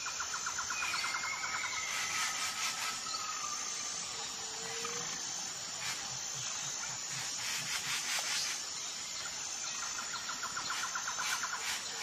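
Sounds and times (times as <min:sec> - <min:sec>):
bird or insect trill: 0:00.0 - 0:12.0
steady hiss: 0:00.0 - 0:12.0.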